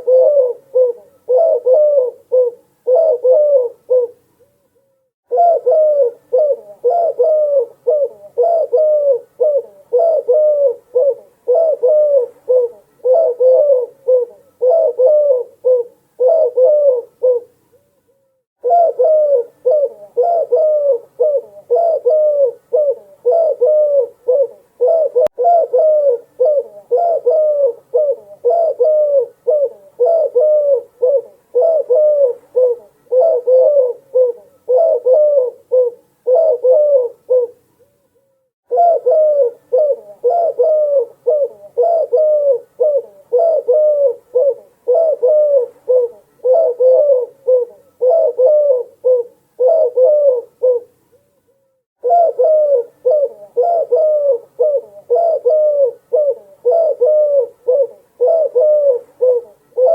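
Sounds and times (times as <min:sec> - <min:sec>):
doves cooing: 0:00.0 - 0:04.2, 0:05.3 - 0:17.6, 0:18.6 - 0:37.6, 0:38.7 - 0:51.0, 0:52.0 - 0:59.9.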